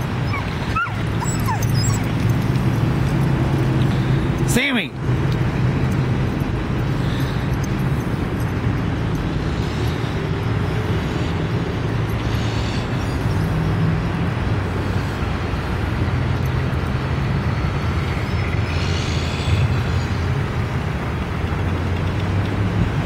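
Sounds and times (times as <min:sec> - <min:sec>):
highway traffic rumble and hiss: 0:00.0 - 0:23.0.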